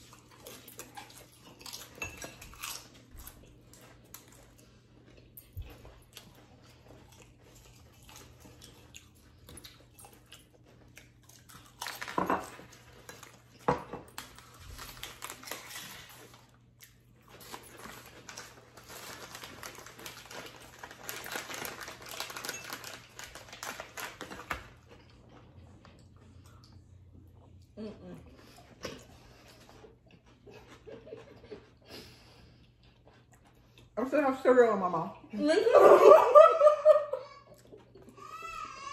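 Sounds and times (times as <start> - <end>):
chewing: 0.0 - 34.0.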